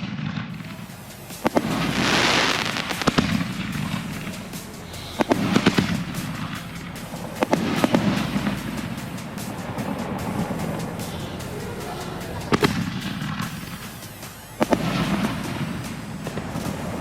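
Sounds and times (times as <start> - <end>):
fireworks bangs: 0.2 - 17.0
music playing: 0.6 - 17.0.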